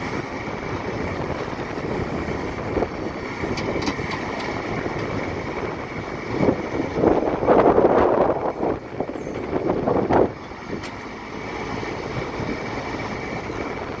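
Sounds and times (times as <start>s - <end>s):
hydraulics working: 0.0s - 14.0s
tractor diesel engine running: 0.0s - 14.0s.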